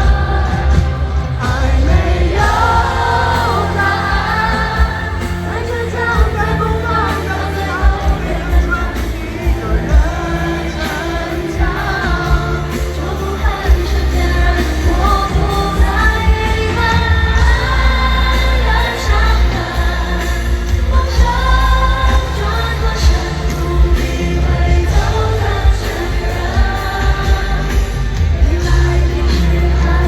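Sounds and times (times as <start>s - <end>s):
heavy pulsing bass: 0.0s - 30.0s
singer over band: 0.0s - 30.0s.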